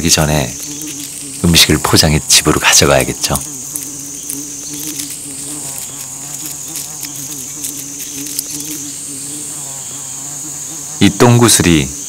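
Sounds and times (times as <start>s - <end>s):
flies buzzing: 0.0s - 12.0s
high-pitched insect drone: 0.0s - 12.0s.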